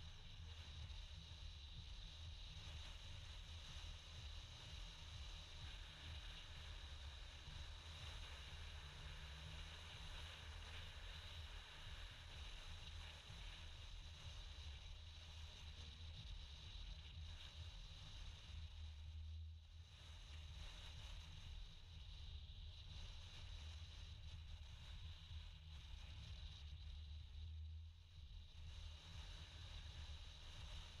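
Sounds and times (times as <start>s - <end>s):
faint low hum and hiss: 0.0s - 31.0s.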